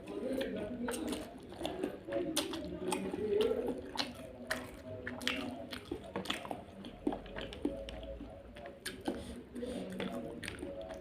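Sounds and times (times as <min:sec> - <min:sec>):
chewing with wet smacks: 0:00.0 - 0:11.0.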